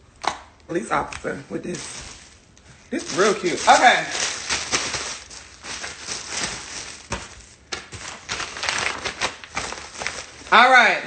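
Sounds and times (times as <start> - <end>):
packaging rustling and crinkling: 1.0 - 10.7.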